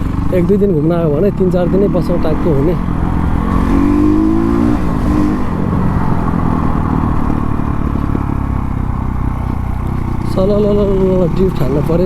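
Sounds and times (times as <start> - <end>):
dirt bike engine running: 0.0 - 12.0
road noise: 0.0 - 12.0.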